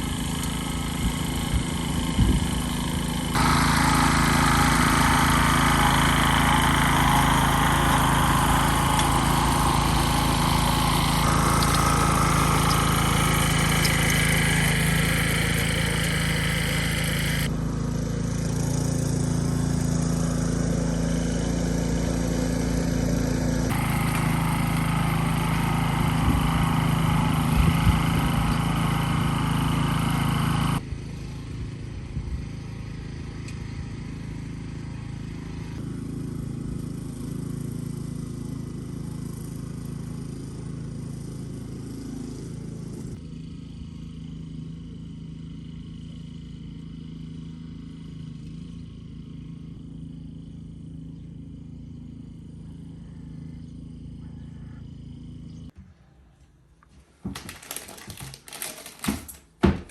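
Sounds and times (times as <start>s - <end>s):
small engine running: 0.0s - 55.8s.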